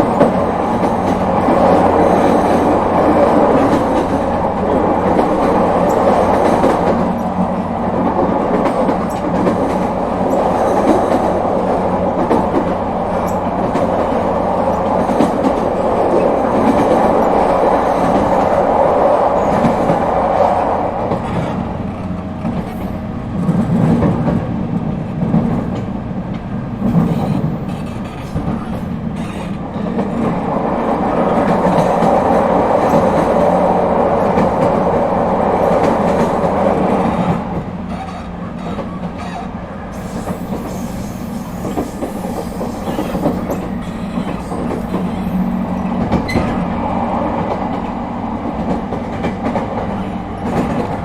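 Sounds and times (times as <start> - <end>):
rail-joint clatter: 0.0 - 51.0
wheels rumbling on rails: 0.0 - 51.0.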